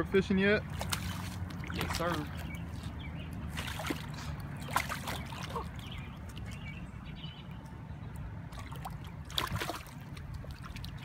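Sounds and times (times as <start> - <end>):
fish splashing in shallow water: 0.6 - 6.8, 8.2 - 11.0.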